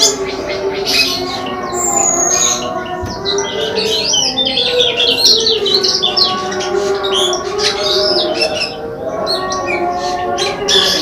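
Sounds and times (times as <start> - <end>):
songbirds twittering and chirping: 0.0 - 11.0.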